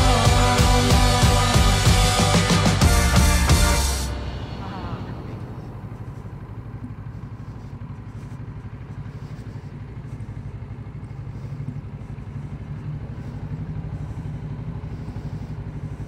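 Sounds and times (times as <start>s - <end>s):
motorcycle engine low pulsing: 0.0s - 16.0s.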